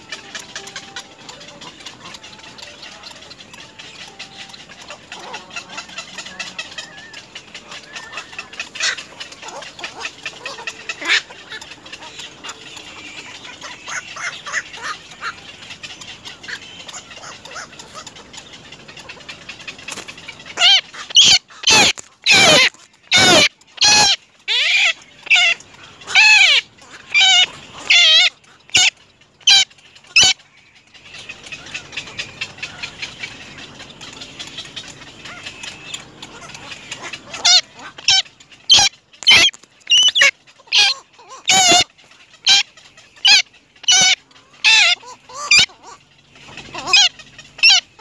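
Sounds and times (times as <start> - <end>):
heron calling: 0.0 - 48.0.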